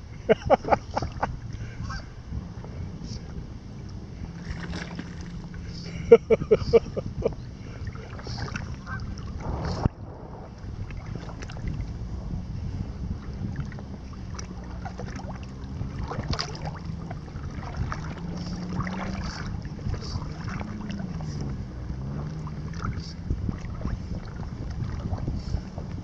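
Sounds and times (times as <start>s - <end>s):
low motor hum: 0.0s - 26.0s
water splashing against boat: 0.0s - 26.0s.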